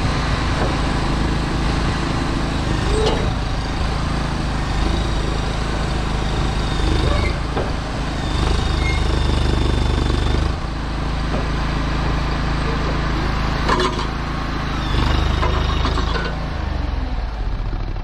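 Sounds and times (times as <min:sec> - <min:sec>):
hydraulic whine: 0:00.0 - 0:16.4
skid steer engine under load: 0:00.0 - 0:18.0.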